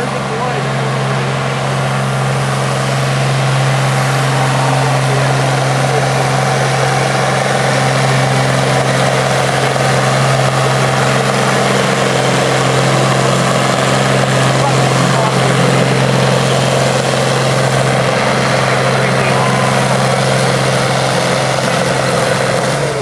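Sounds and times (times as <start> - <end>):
tractor engine running under load: 0.0 - 23.0.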